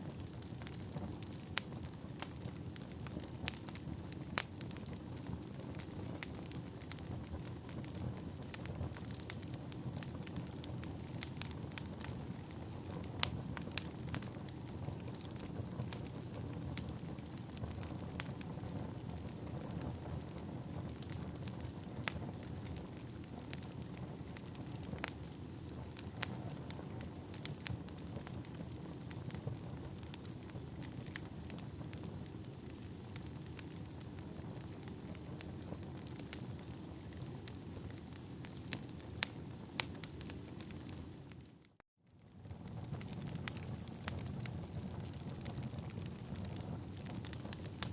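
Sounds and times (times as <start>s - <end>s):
wood fire rumbling: 0.0s - 41.5s, 42.2s - 47.9s
crackles and pops of firewood: 0.0s - 47.9s.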